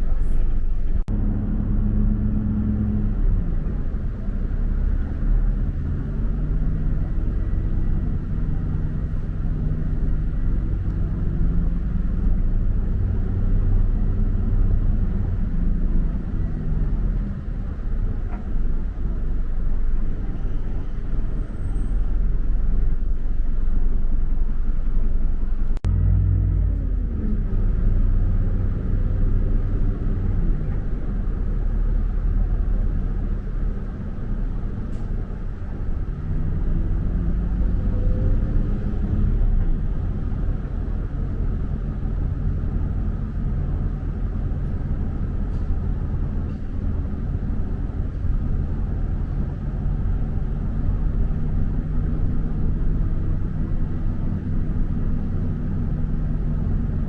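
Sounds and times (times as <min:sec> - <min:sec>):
road rumble: 0:00.0 - 0:57.0
vehicle engine: 0:00.0 - 0:57.0.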